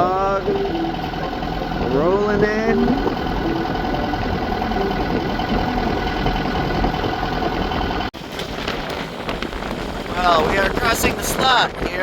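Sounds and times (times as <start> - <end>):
boat engine humming: 0.0 - 10.1
wind and water noise: 0.0 - 12.0.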